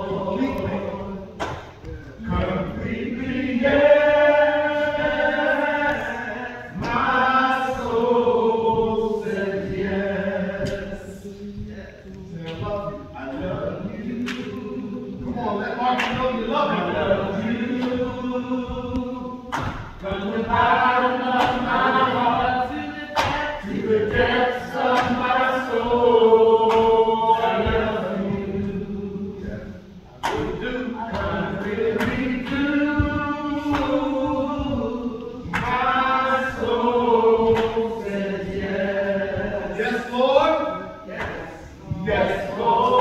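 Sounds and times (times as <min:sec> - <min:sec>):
choir singing gospel: 0:00.0 - 0:43.0.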